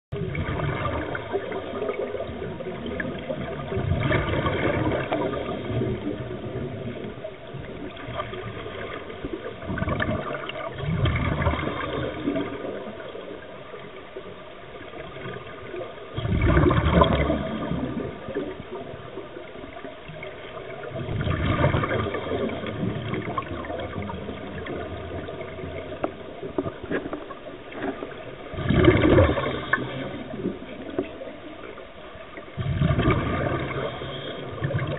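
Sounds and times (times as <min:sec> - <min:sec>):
underwater exhaled air bubbles: 0:00.1 - 0:34.9.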